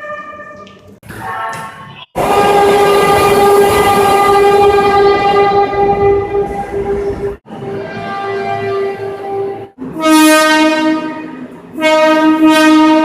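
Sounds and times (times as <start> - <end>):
train horn blast: 2.2 - 13.0.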